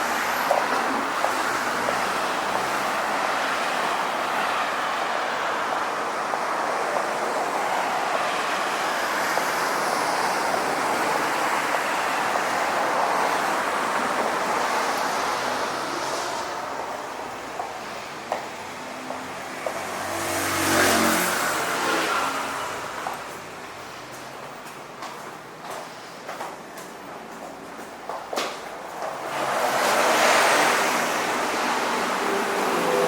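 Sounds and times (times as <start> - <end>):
steady rushing outdoor noise: 0.0 - 33.0.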